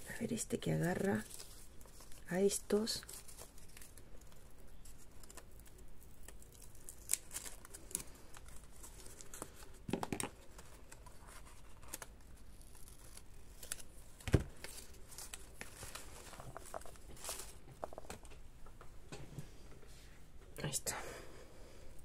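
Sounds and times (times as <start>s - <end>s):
paper rustling and crinkling: 0.6s - 18.3s.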